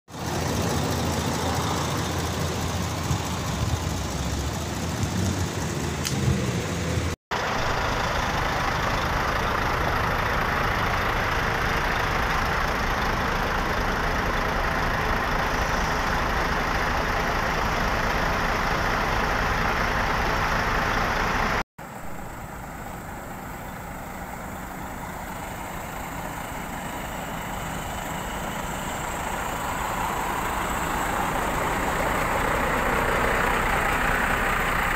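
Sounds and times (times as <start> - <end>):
truck diesel engines running: 0.1 - 34.9.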